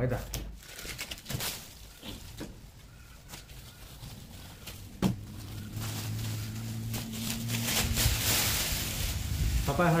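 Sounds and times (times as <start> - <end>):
plastic sheeting rustling: 0.0 - 10.0.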